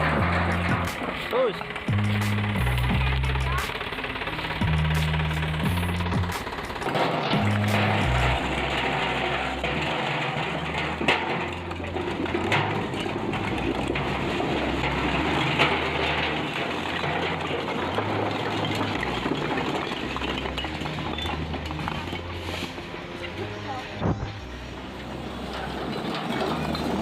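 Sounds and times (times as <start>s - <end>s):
load pouring out rushing: 0.0s - 23.0s
dump truck engine running: 0.0s - 27.0s.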